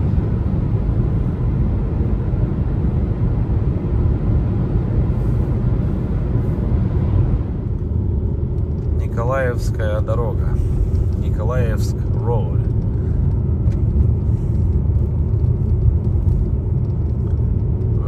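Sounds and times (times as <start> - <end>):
vehicle road and engine rumble: 0.0 - 18.0.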